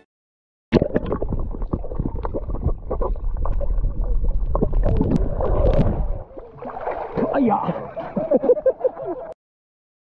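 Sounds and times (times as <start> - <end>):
underwater gurgling and bubbles: 0.7 - 9.3
low underwater rumble: 0.8 - 9.3.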